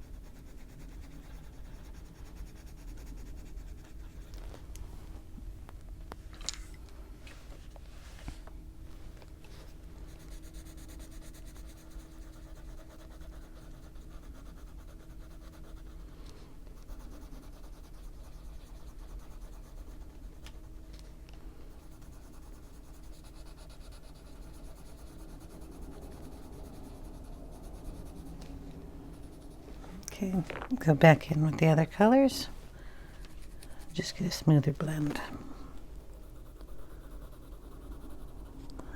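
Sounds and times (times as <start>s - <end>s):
colored pencil scratching on paper: 0.0s - 4.4s, 9.5s - 20.8s, 21.7s - 32.5s, 33.2s - 38.9s
faint steady hum: 0.0s - 38.9s.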